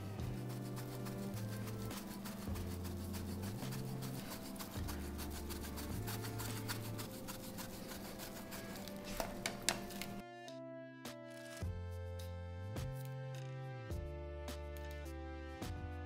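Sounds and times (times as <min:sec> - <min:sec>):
background music with low notes: 0:00.0 - 0:16.0.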